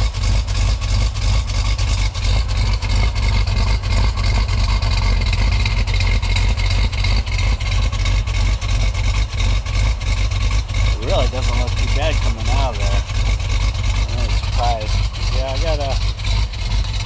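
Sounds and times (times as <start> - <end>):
car exhaust idling: 0.0 - 17.0.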